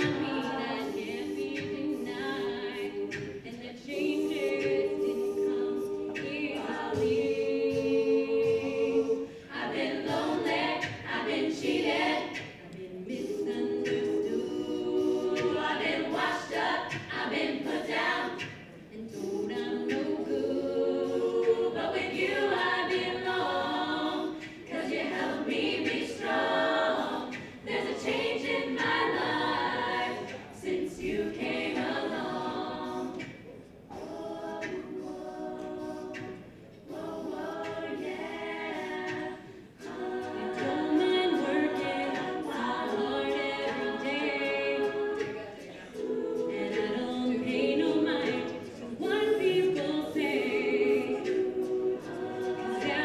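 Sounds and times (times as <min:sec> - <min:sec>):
women singing harmonies: 0:00.0 - 0:53.0.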